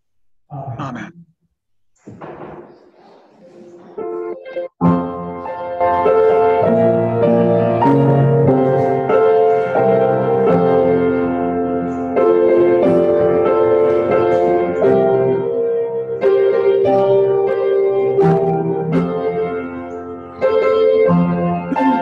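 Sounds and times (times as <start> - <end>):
piano sustained chords: 4.1 - 22.0.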